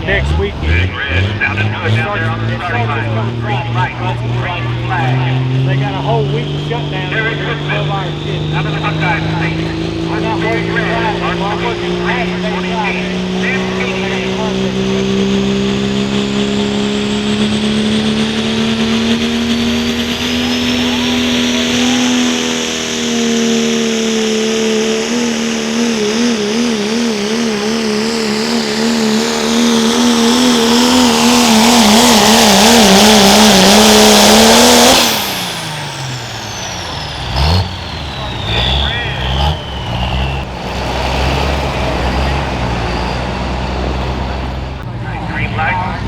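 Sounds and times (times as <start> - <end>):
high whine: 0.0 - 45.4
diesel truck engine at full throttle: 0.0 - 46.0.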